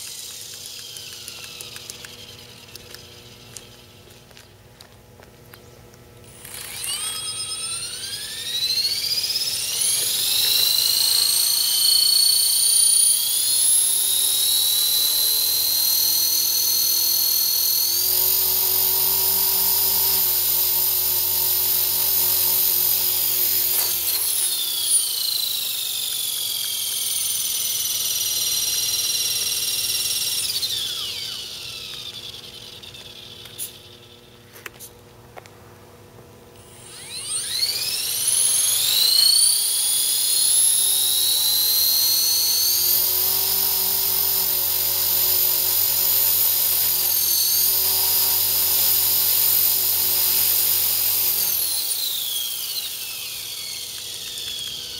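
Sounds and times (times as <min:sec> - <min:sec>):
rc helicopter motor and rotor whine: 0:00.0 - 0:04.6, 0:05.6 - 0:35.0, 0:36.6 - 0:54.9.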